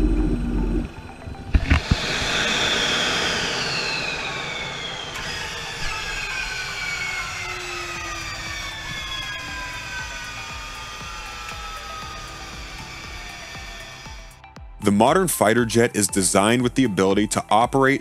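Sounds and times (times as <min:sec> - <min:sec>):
jet engine winding down: 0:00.0 - 0:16.6.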